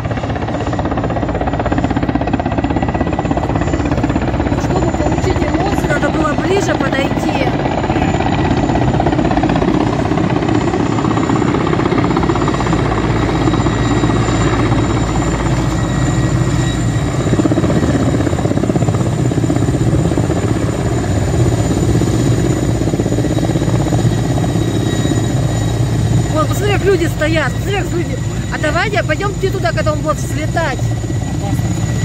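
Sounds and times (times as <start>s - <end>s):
helicopter rotor beating: 0.0s - 32.0s
high turbine whine: 0.0s - 32.0s.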